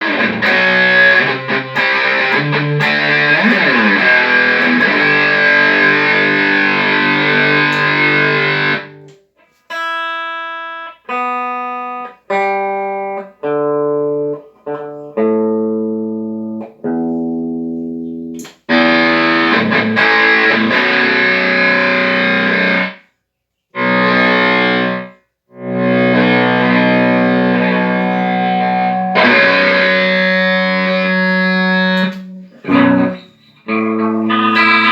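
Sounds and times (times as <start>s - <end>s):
distorted electric guitar: 0.0s - 23.0s, 23.8s - 34.9s.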